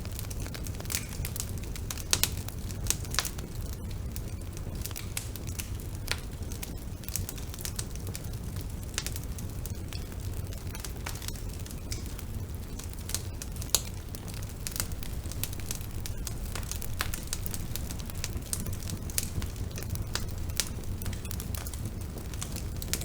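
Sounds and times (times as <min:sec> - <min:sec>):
bonfire flames rumbling: 0:00.0 - 0:23.0
burning wood crackling and popping: 0:00.0 - 0:23.0.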